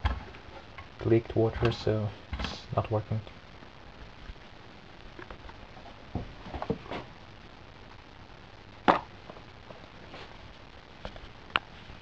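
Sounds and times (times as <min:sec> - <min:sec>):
faint steady background: 0:00.0 - 0:12.0.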